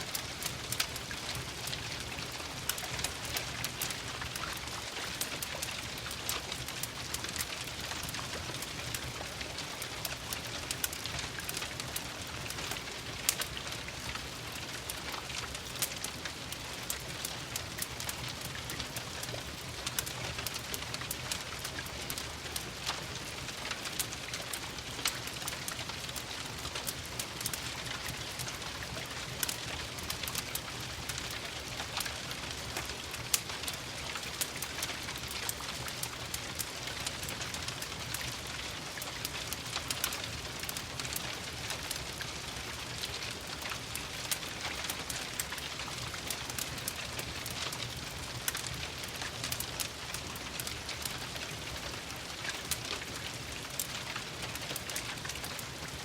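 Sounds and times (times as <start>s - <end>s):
rain pattering: 0.0s - 56.0s
wood fire crackling: 0.0s - 56.0s.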